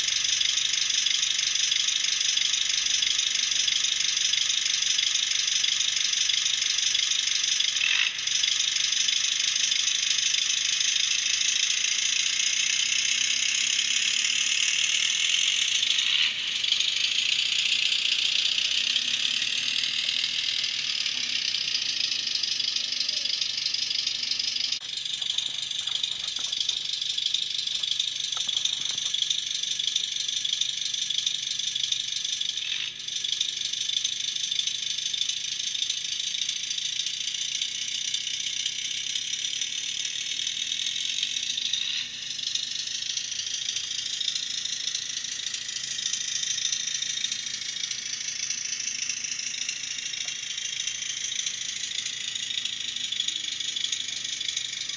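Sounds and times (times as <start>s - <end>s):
tiny speaker diesel engine sound: 0.0s - 36.6s, 37.5s - 54.9s.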